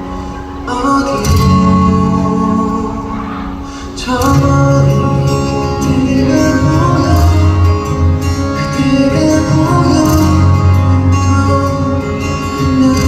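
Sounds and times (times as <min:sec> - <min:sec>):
bass guitar: 0:00.0 - 0:13.0
guitar: 0:00.0 - 0:13.0.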